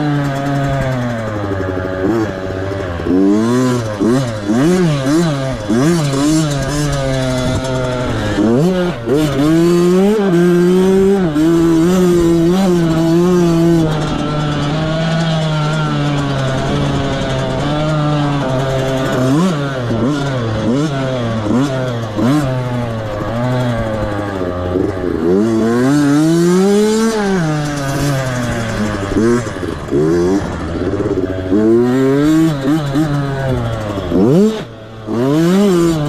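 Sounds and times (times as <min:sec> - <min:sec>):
two-stroke motocross bike revving: 0:00.0 - 0:36.0.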